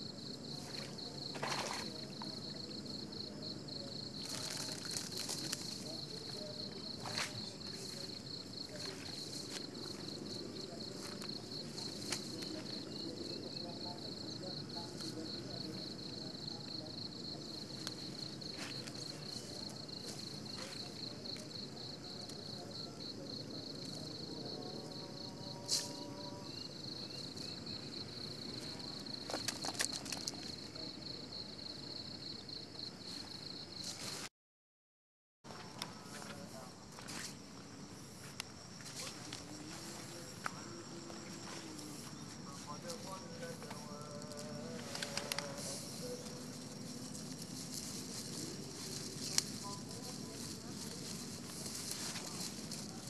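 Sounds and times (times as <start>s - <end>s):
insects trilling: 0.0s - 34.2s, 35.5s - 53.0s.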